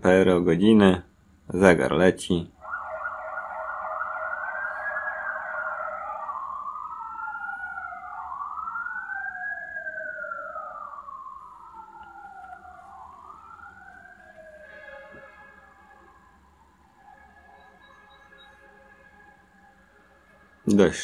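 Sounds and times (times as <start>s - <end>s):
emergency vehicle sirens wailing: 2.5s - 21.0s.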